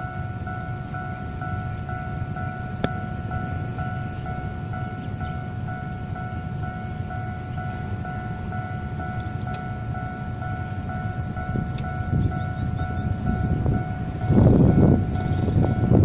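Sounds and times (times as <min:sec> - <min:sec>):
level crossing alarm pulsing tone: 0:00.0 - 0:16.0.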